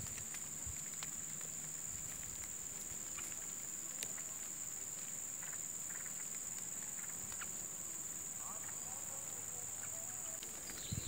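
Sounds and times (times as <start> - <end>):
faint ticks and clicks: 0.0 - 11.0.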